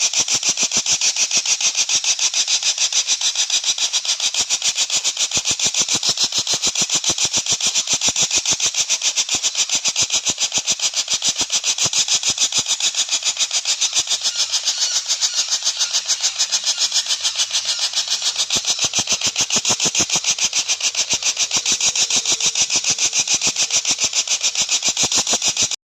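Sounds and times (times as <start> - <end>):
bird calling in ticking notes: 3.1 - 25.8.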